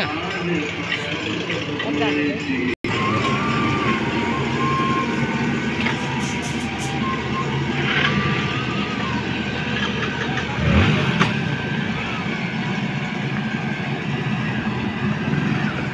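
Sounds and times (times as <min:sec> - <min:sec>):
diesel engine running: 0:00.0 - 0:15.9.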